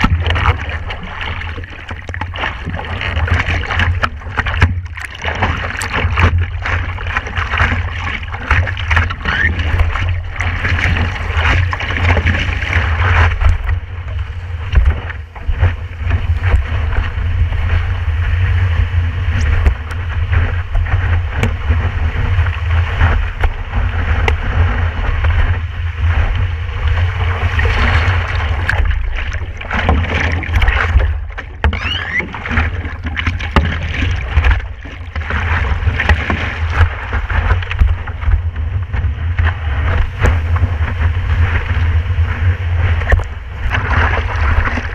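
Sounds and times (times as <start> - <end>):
water rushing and splashing: 0.0 - 44.9
wind rumble on microphone: 0.0 - 44.9.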